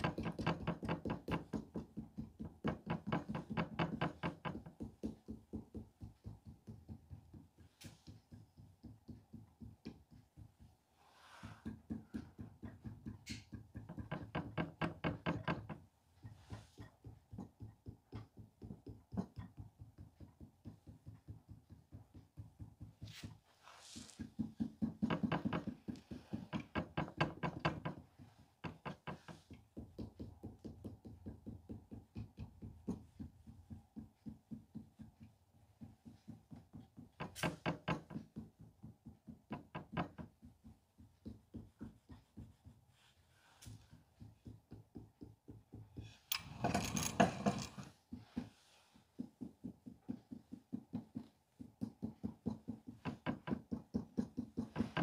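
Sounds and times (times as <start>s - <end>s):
sculpting tool tapping clay: 0.0s - 55.0s.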